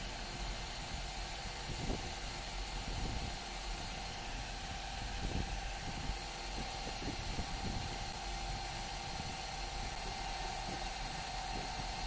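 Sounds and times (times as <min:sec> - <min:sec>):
boring machine whining: 0:00.0 - 0:12.0.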